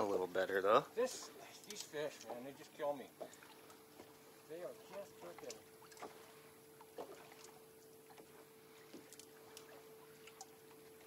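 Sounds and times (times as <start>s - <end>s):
faint steady hum: 0.0s - 11.0s
water lapping against boat hull: 1.0s - 11.0s.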